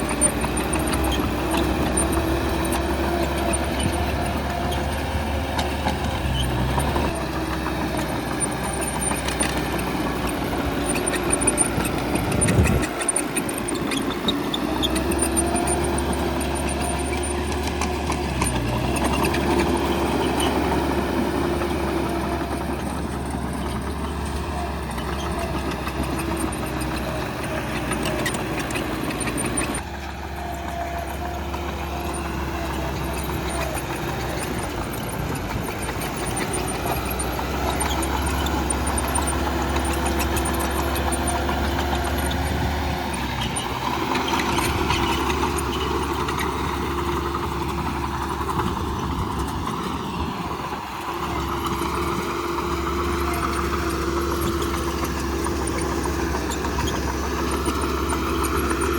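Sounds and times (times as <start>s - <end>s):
heavy diesel machinery engine: 0.0s - 58.9s.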